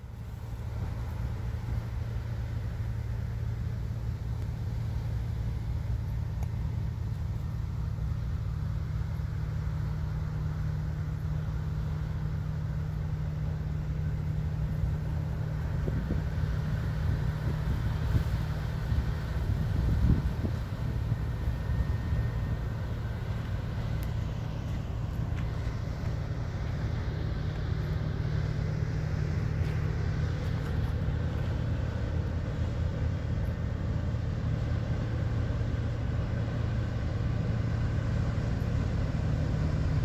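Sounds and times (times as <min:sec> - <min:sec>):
ship engine drone: 0:00.0 - 0:40.0.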